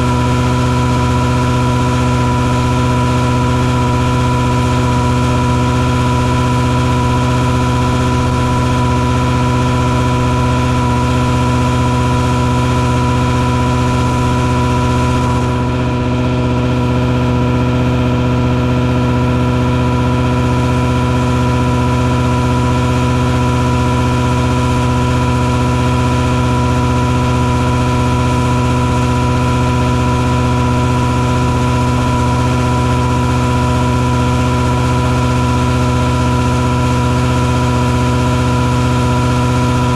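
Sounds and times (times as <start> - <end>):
steady high whine: 0.0 - 39.9
truck engine drone: 0.0 - 39.9.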